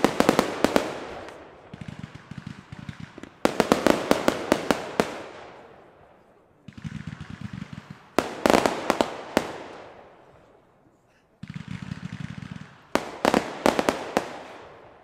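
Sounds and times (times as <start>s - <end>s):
fireworks bangs echoing: 0.0s - 10.6s, 11.3s - 15.0s.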